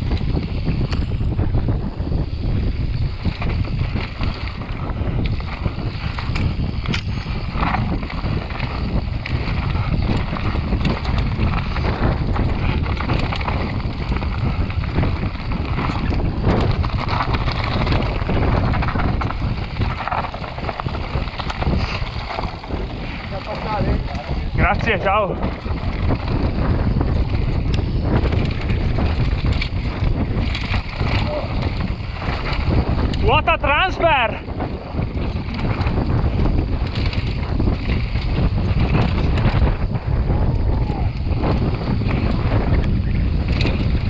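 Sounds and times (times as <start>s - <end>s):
bike chain slapping: 0.0s - 44.0s
wind rushing over microphone: 0.0s - 44.0s.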